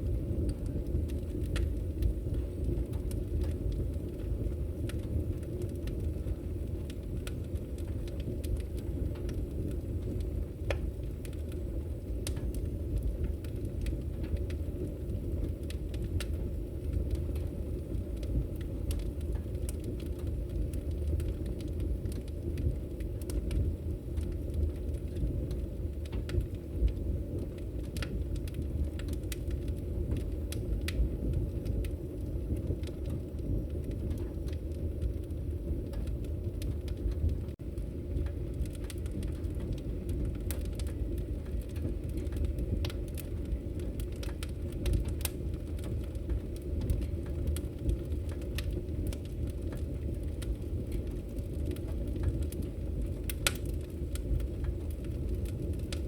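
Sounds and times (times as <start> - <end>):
flames rumbling: 0.0 - 56.0
wood crackling and popping: 0.0 - 56.0.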